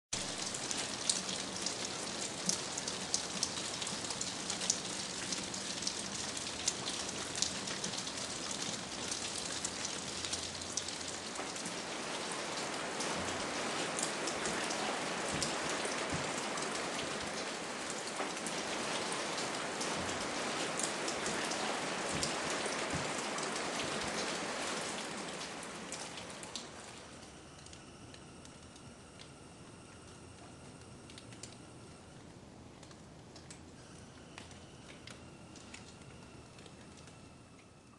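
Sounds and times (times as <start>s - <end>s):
raindrops ticking close by: 0.2s - 37.9s
steady rain falling: 0.2s - 37.9s.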